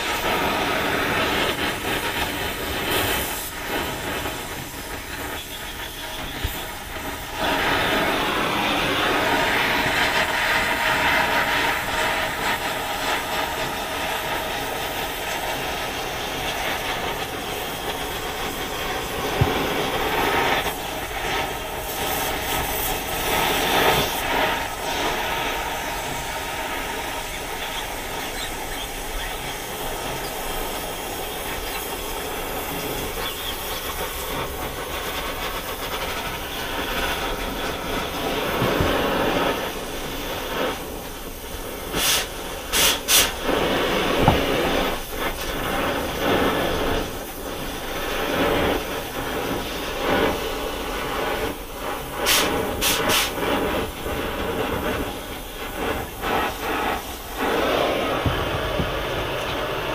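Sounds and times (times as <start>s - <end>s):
short sharp blasts of sparks: 0.0s - 59.9s
torch flame hissing: 0.0s - 59.9s.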